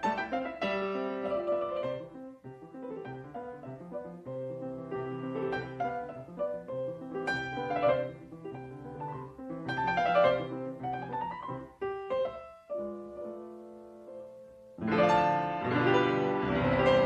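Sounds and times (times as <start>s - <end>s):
grand piano classical music: 0.0s - 17.0s.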